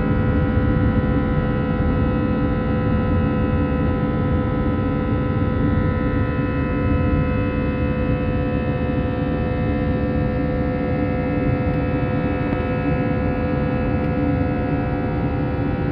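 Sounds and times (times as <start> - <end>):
jet engine cabin drone: 0.0 - 15.9
steady whining tones: 0.0 - 15.9.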